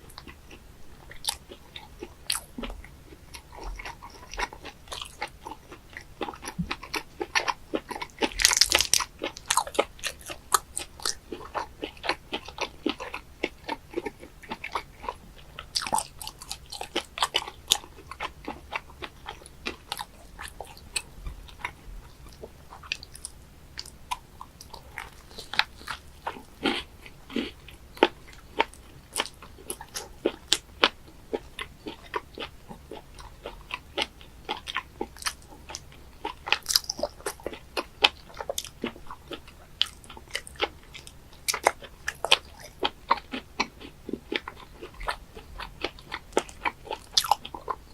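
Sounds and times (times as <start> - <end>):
person chewing wet crunchy food: 0.0 - 47.9.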